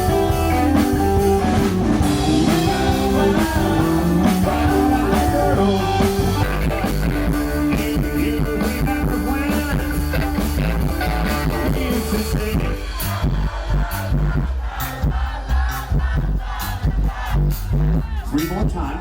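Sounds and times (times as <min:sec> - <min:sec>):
live rock band music: 0:00.0 - 0:19.0.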